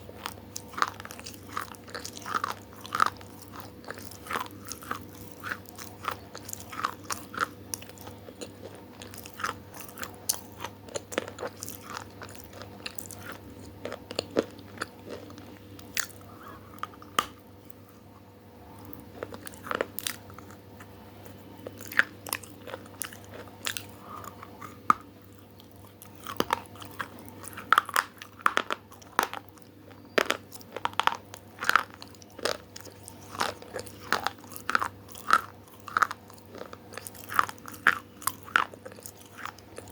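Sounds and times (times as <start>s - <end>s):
crunchy food chewing: 0.0s - 39.9s
faint steady hum: 0.0s - 39.9s.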